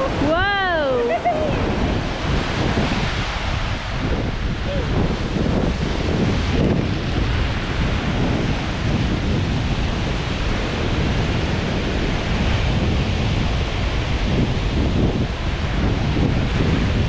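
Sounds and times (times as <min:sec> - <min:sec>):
small surf on sandy beach: 0:00.0 - 0:17.0
wind buffeting microphone: 0:00.0 - 0:17.0.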